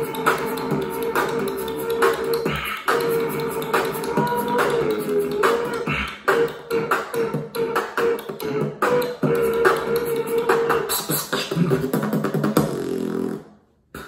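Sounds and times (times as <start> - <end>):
hummed notes: 0.0 - 11.8
human beatboxing: 0.0 - 14.0.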